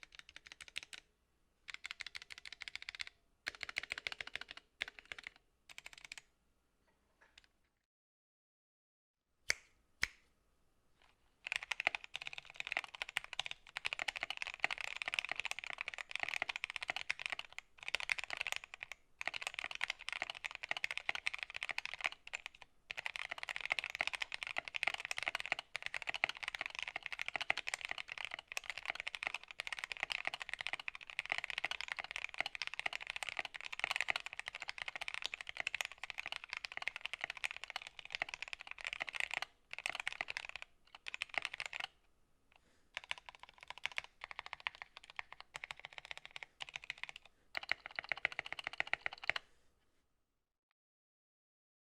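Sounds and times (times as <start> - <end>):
fast typing on mechanical keyboard: 0.0 - 1.0, 1.7 - 6.2, 11.4 - 42.0, 43.0 - 49.4.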